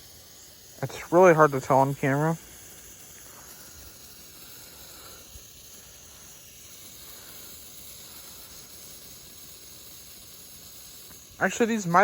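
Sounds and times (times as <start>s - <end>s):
crickets trilling: 0.0s - 12.0s
sparkler fizzing hiss: 0.0s - 12.0s.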